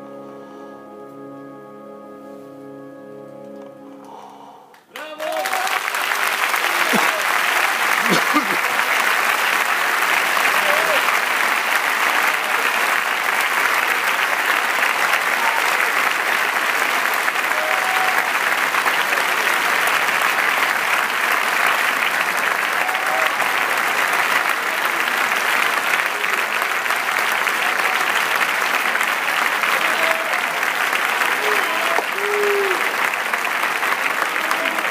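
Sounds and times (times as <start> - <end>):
large audience applauding: 4.8 - 34.9.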